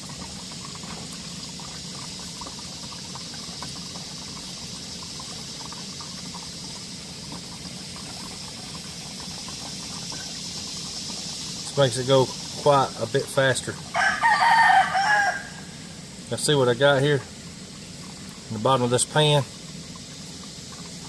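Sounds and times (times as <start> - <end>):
oil trickling through funnel: 0.0 - 21.0.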